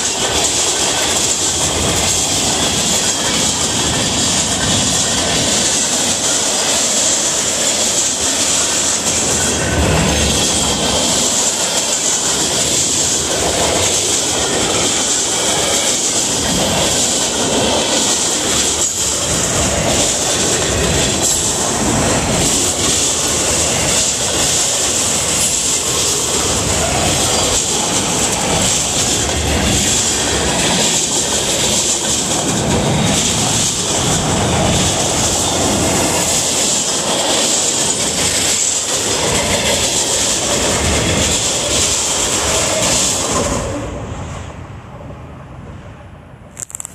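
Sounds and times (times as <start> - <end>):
wheels clicking over rail joints: 0.0 - 43.8
train wheels on rail: 0.0 - 46.9.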